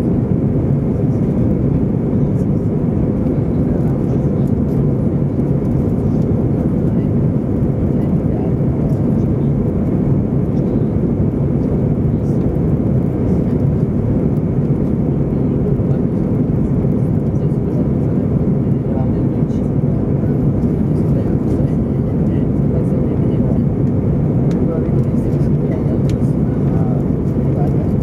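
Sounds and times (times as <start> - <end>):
jet engines and airflow rumble: 0.0 - 28.0.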